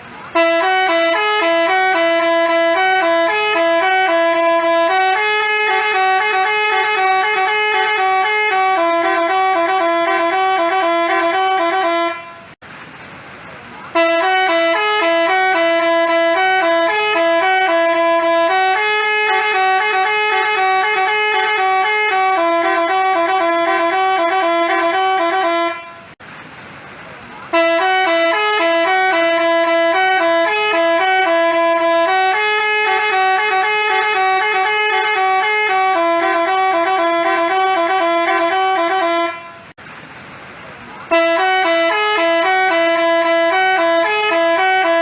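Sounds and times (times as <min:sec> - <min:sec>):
bus horn playing a melody: 0:00.0 - 0:12.6, 0:13.9 - 0:26.2, 0:27.5 - 0:39.8, 0:41.1 - 0:45.0.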